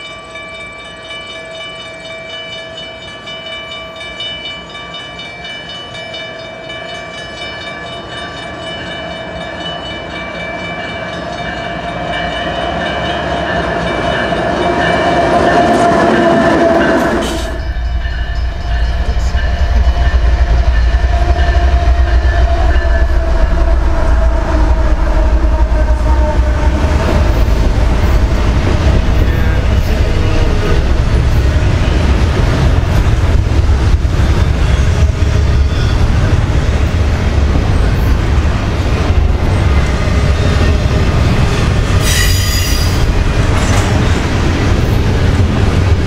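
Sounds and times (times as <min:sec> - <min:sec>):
diesel locomotive engines droning: 0:00.0 - 0:46.0.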